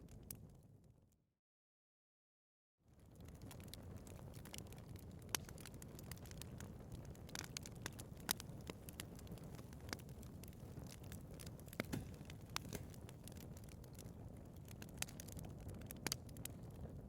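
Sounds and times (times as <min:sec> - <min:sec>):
wood fire crackling: 0:02.9 - 0:17.0.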